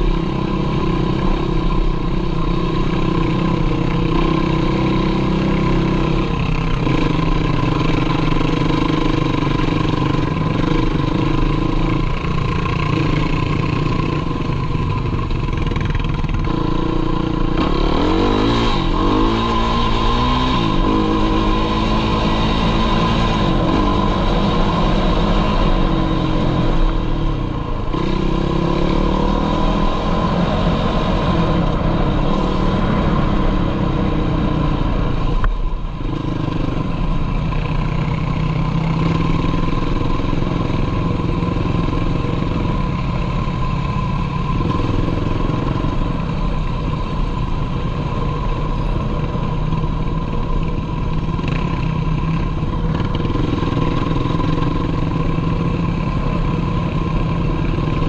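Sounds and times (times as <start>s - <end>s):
quad bike engine revving: 0.0s - 47.0s, 48.6s - 58.0s.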